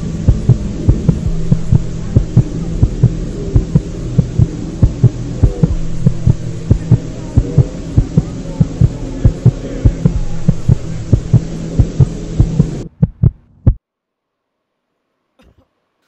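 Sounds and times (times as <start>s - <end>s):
heavy heartbeat-like thumps: 0.0s - 13.8s
low droning hum: 0.0s - 13.8s.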